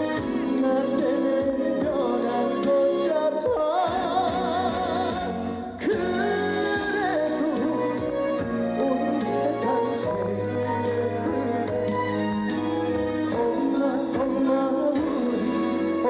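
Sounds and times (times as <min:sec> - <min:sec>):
man singing a slow ballad: 0:00.0 - 0:12.0, 0:13.3 - 0:16.0
band accompaniment: 0:00.0 - 0:15.6.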